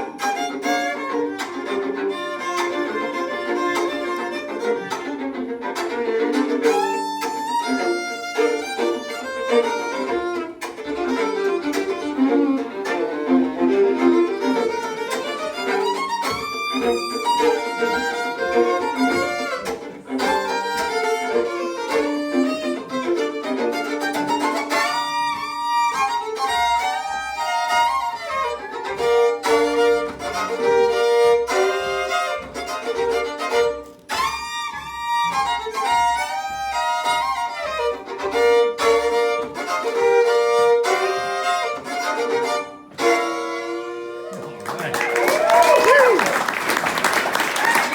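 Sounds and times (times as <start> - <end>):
scratchy percussive bow chops: 0.0 - 44.7
two fiddles playing a tune: 0.0 - 44.8.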